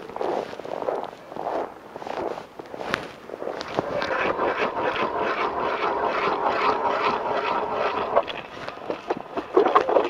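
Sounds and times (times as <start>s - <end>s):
ice auger grinding through ice: 0.0s - 10.0s.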